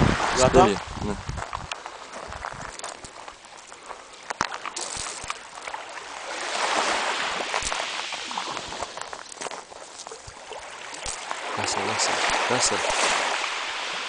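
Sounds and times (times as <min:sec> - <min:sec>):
small wave washing over shells: 0:01.7 - 0:14.0.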